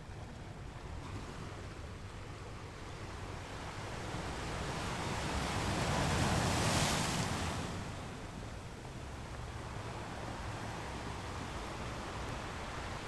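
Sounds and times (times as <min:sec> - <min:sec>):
low rumble of surf: 0:00.0 - 0:13.0.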